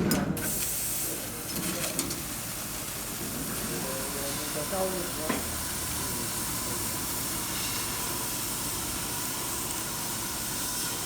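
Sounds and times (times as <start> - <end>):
laser cutting machine hissing: 0.4 - 11.0.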